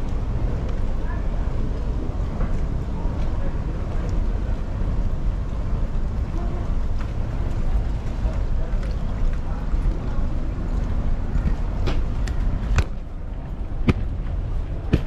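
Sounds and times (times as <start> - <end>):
boat motor: 0.0 - 15.0
wind: 0.0 - 15.0.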